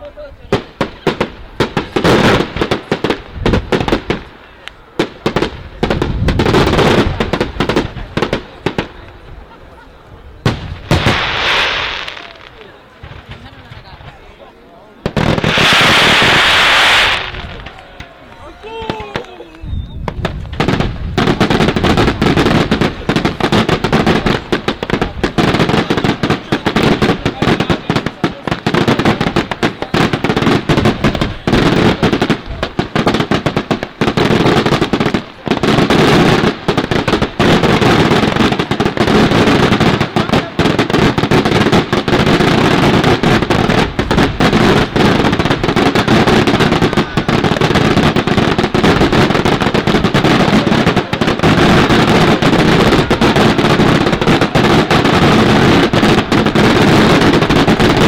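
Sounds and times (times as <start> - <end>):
firecracker crackling: 0.0 - 58.0
fireworks bangs: 0.0 - 58.0.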